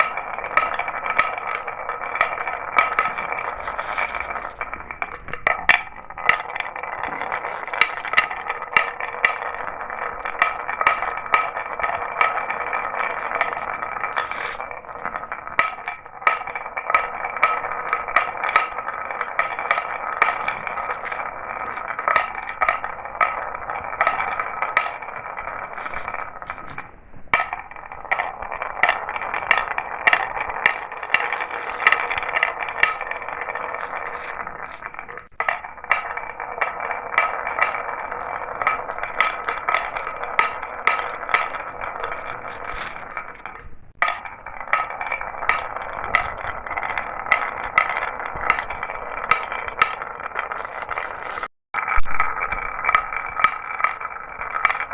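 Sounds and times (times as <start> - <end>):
marbles clicking and clacking: 0.0 - 54.9
marbles rolling on track: 0.0 - 54.9.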